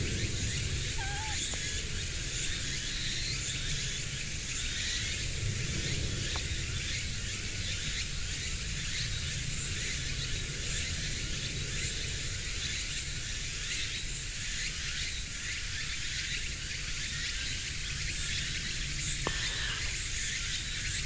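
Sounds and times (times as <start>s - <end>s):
insects hissing: 0.0s - 15.5s, 16.2s - 21.0s.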